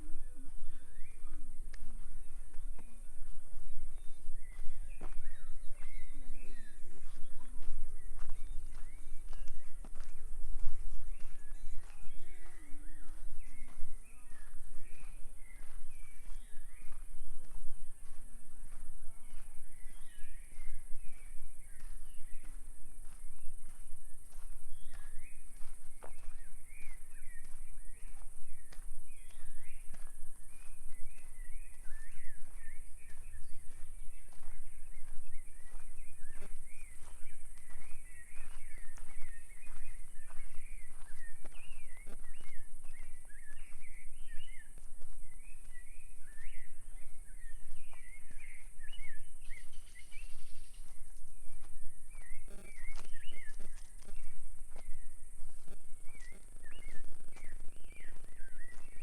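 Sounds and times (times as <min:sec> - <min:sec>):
birds chirping and singing: 0:00.0 - 0:59.0
footsteps crunching on path: 0:00.0 - 0:59.0.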